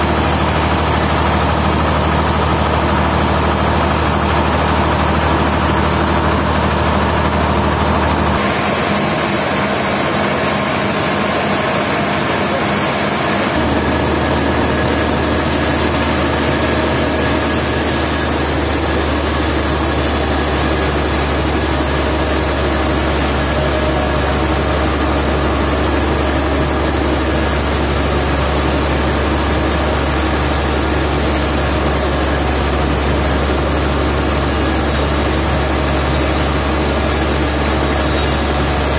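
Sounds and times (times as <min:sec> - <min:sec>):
sawmill engine droning: 0:00.0 - 0:38.9.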